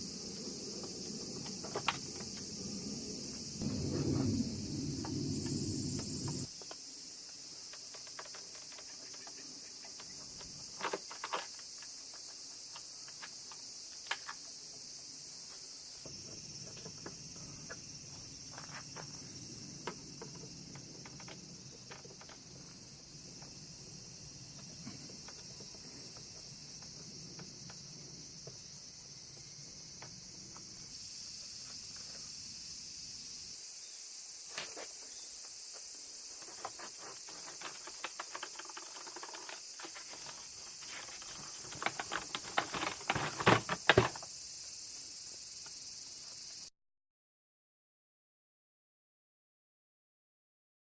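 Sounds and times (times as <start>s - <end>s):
steady high hiss: 0.0s - 41.8s.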